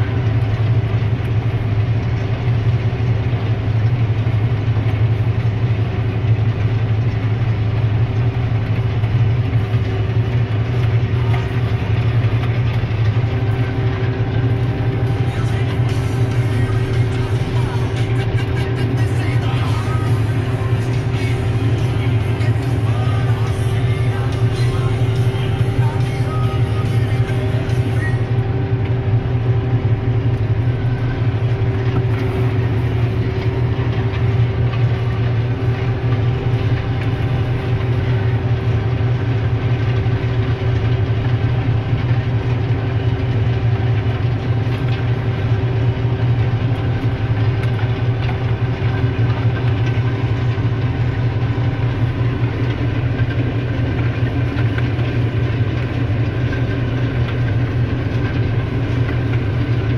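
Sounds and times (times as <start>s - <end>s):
steady whine: 0.0s - 59.9s
tractor diesel engine drone: 0.0s - 59.9s.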